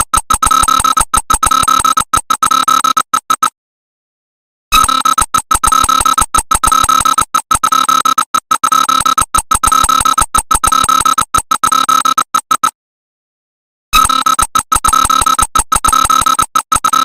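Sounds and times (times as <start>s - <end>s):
harsh electronic alarm tone: 0.0s - 3.5s, 4.7s - 12.8s, 14.0s - 17.0s.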